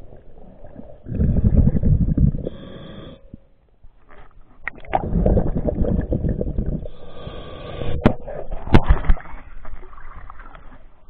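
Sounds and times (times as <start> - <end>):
water churning and bubbling: 0.0 - 3.6, 4.5 - 11.0.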